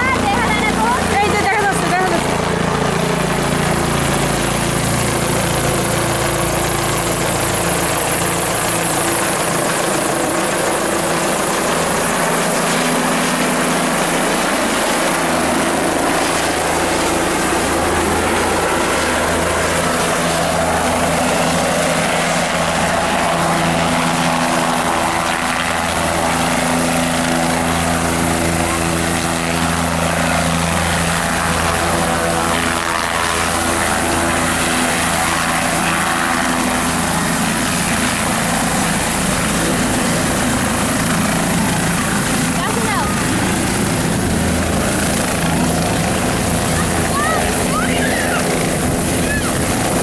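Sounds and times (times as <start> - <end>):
helicopter rotor and engine: 0.0 - 50.0.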